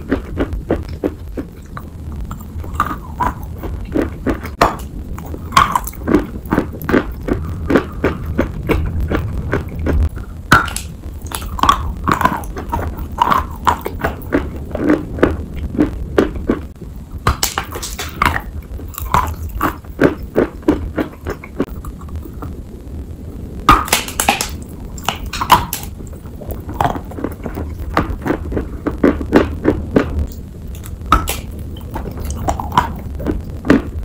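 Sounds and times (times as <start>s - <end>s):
person chewing chalk crunching: 0.0s - 22.6s, 23.6s - 34.0s
low steady hum: 0.0s - 34.0s.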